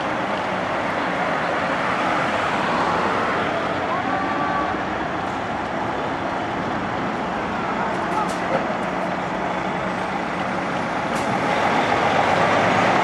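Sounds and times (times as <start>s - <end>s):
road vehicle noise: 0.0s - 13.0s.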